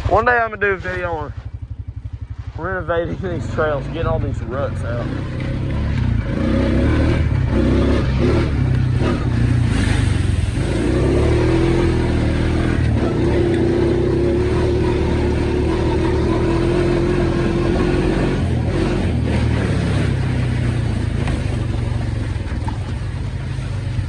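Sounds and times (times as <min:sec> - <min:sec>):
atv engine under throttle: 0:00.0 - 0:24.0.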